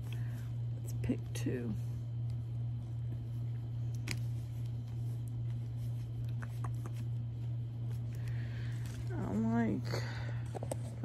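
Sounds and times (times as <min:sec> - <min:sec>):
steady low hum: 0:00.0 - 0:11.0
faint handling noises: 0:02.1 - 0:11.0.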